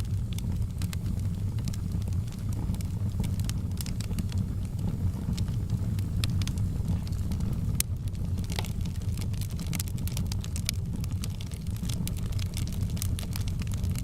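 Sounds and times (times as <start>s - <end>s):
fire pops and snaps: 0.0s - 14.0s
wood fire crackling: 0.0s - 14.0s.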